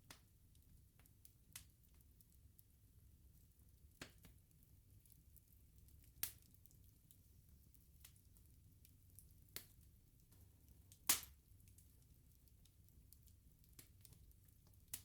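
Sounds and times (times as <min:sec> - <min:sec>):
sharp pops from burning logs: 0:00.0 - 0:02.5, 0:03.8 - 0:07.2, 0:07.8 - 0:15.0
wood fire crackling: 0:00.0 - 0:15.0.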